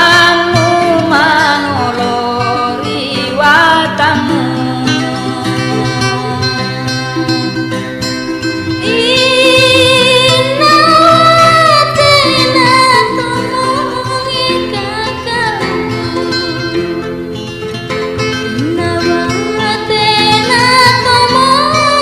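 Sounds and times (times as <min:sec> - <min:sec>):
person singing long notes: 0:00.0 - 0:07.8, 0:08.8 - 0:17.3, 0:18.4 - 0:22.0
plucked string instrument: 0:00.0 - 0:22.0.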